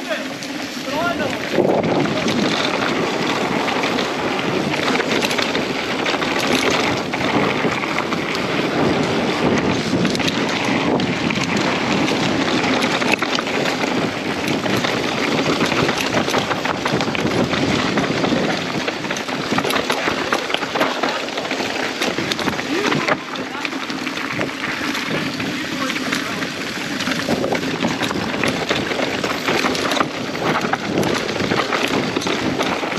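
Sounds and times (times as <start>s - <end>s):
bike rattles and clicks: 0.0s - 32.9s
bike tyre noise: 0.0s - 32.9s
wind on microphone: 0.8s - 32.9s.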